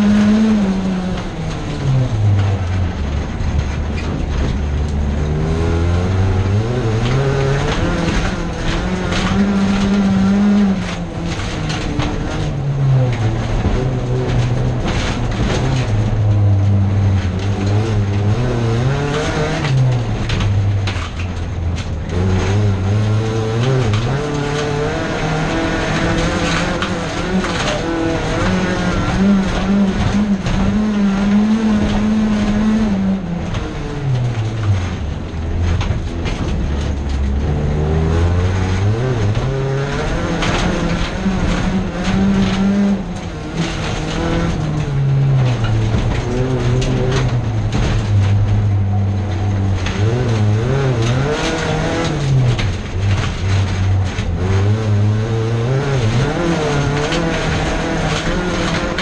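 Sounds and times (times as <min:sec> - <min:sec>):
car engine revving: 0:00.0 - 0:59.0
knocks and rattles of car body: 0:00.1 - 0:59.0.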